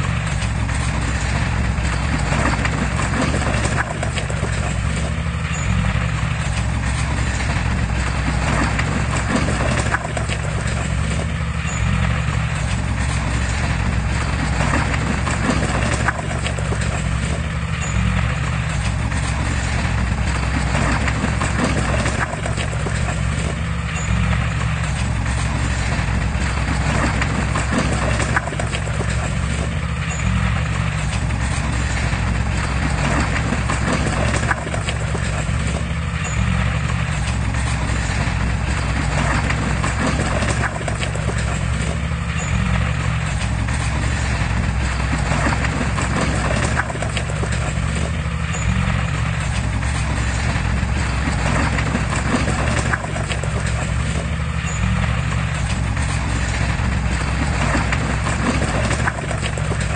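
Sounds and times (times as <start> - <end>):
heavy diesel engine under load: 0.0 - 59.9
machinery clatter: 0.0 - 59.9.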